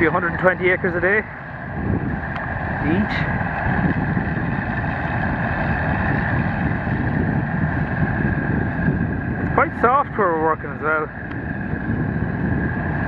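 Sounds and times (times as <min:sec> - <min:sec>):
diesel engine drone: 0:00.0 - 0:13.0
machinery whine: 0:00.0 - 0:13.0.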